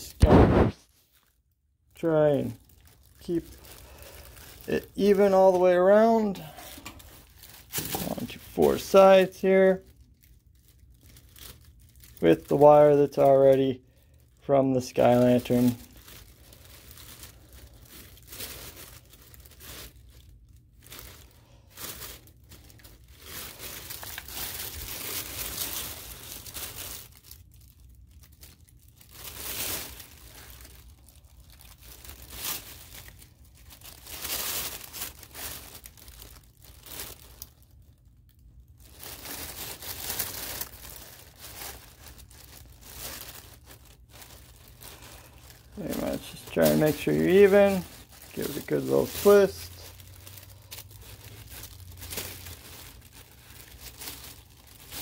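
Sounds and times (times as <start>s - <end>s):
tissue paper rustling and crinkling: 0.0s - 1.4s, 2.0s - 55.0s.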